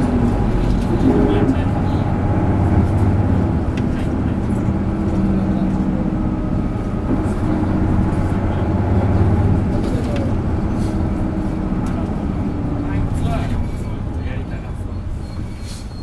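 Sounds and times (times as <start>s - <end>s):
bus diesel engine under load: 0.0s - 16.0s.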